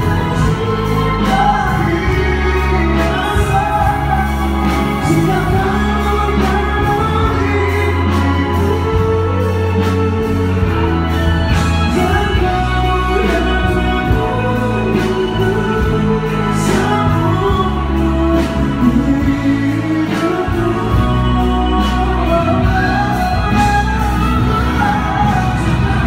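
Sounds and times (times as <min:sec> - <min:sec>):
band accompaniment: 0:00.0 - 0:26.0
man singing into a microphone: 0:00.0 - 0:26.0.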